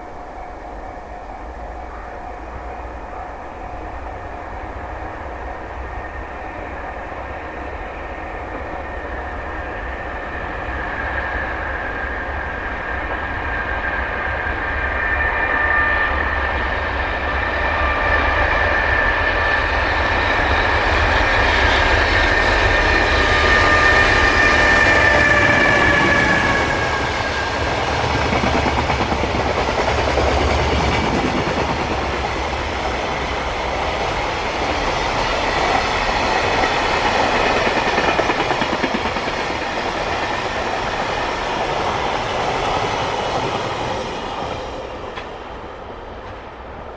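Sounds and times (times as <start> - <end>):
freight train passing: 0.0 - 46.9.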